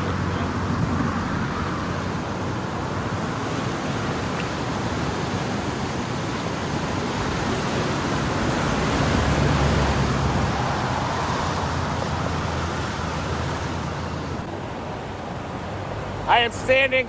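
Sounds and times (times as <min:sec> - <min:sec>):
floodwater rushing against bridge: 0:00.0 - 0:17.0.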